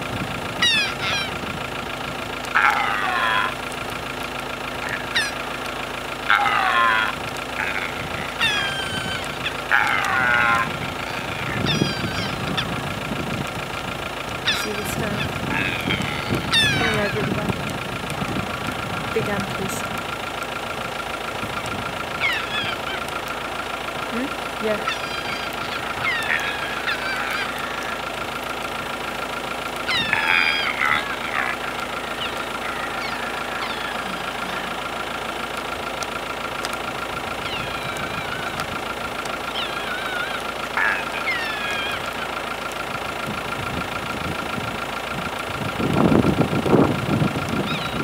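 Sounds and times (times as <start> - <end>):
low rumble: 0.0 - 40.1
deer calling: 0.0 - 46.0, 47.6 - 48.0
diesel car engine idling: 0.0 - 48.0.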